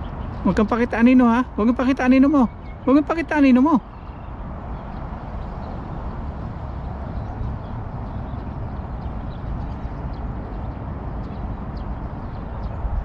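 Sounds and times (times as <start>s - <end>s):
low rushing outdoor noise: 0.0s - 13.0s.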